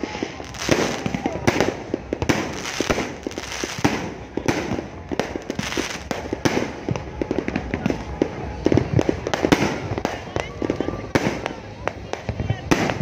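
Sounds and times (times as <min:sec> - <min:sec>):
fireworks banging: 0:00.0 - 0:13.0
fireworks crackling: 0:00.0 - 0:13.0.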